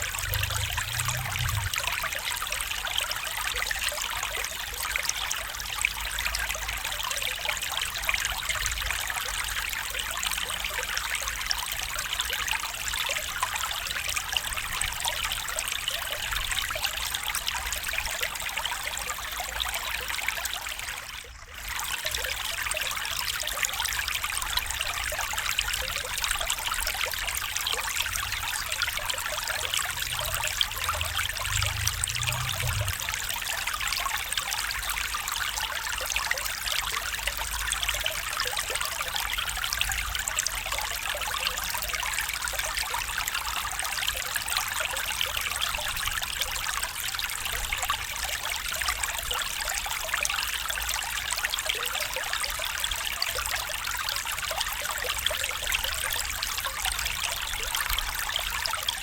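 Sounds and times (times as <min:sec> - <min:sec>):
stream water trickling: 0:00.0 - 0:59.0.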